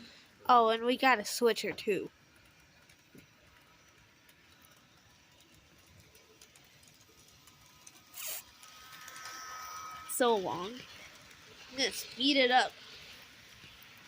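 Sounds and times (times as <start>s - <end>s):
toy train motor whine: 2.0s - 14.0s.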